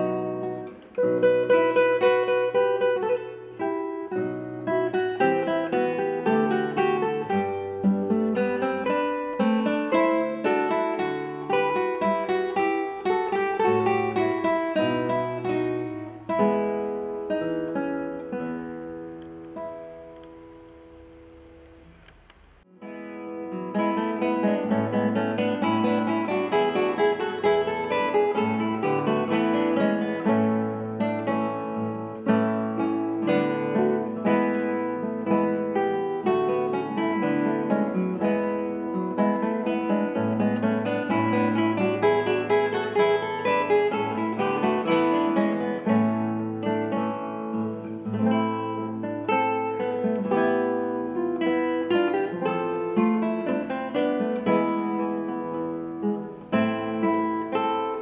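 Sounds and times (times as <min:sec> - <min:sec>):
two classical guitars playing: 0:00.0 - 0:58.0.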